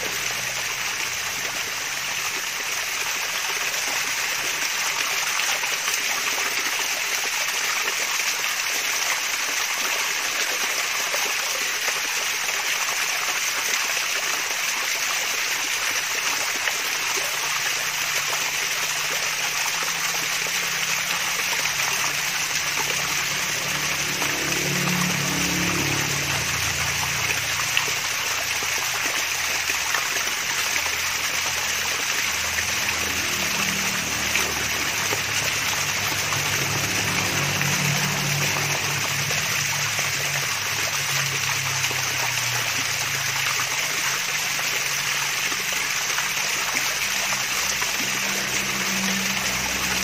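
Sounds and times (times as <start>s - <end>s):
small waterfall splashing: 0.0s - 50.0s.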